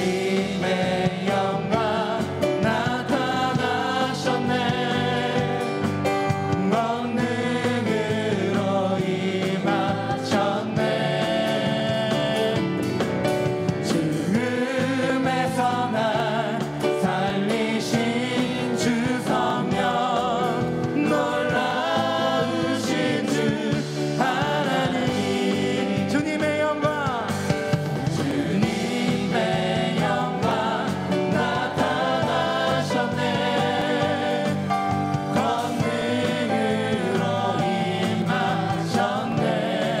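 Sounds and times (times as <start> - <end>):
group singing worship song: 0.0 - 40.0
man singing lead: 0.0 - 40.0.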